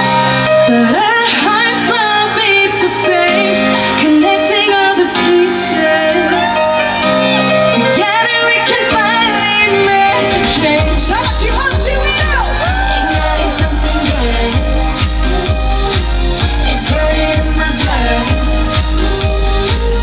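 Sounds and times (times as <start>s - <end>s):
keyboard-led backing band: 0.0s - 20.0s
woman singing pop: 0.0s - 20.0s.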